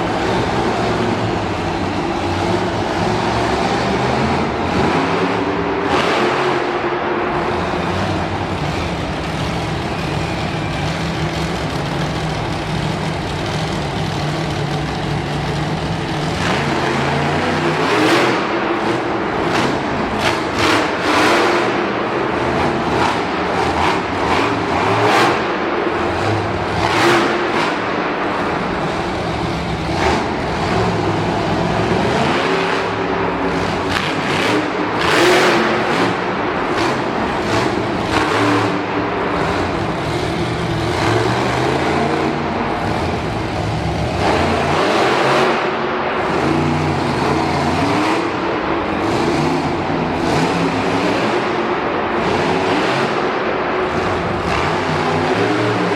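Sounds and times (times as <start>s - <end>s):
monster truck engines revving: 0.0s - 55.9s.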